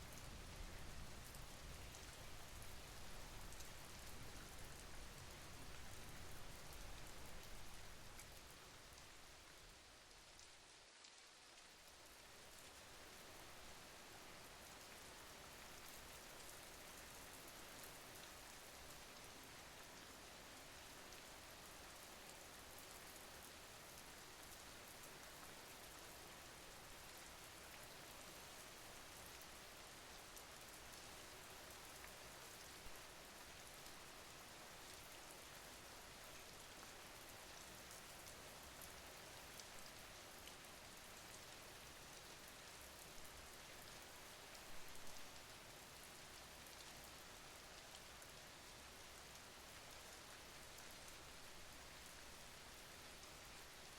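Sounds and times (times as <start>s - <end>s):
faint rain falling: 0.0s - 53.9s.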